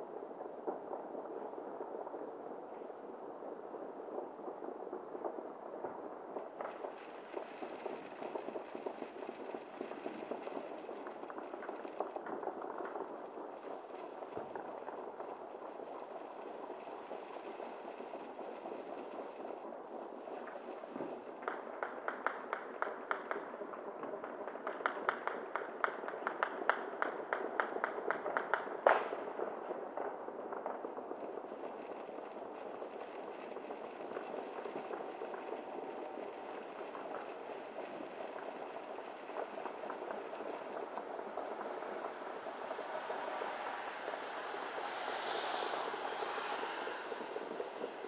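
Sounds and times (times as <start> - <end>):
distant firecrackers popping: 0.0 - 48.0
fireworks crackling: 3.0 - 48.0.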